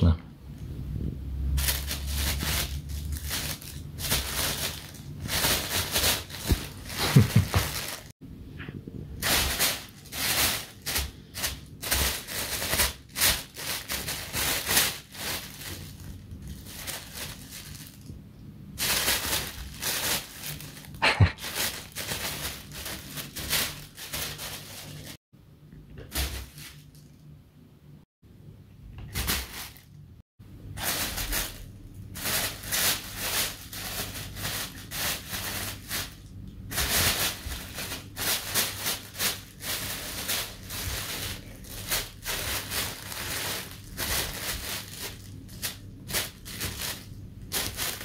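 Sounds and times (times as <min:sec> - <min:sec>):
plastic bag rustling: 0:01.5 - 0:08.1, 0:09.1 - 0:25.2, 0:26.1 - 0:27.1, 0:29.1 - 0:30.0, 0:30.8 - 0:48.0.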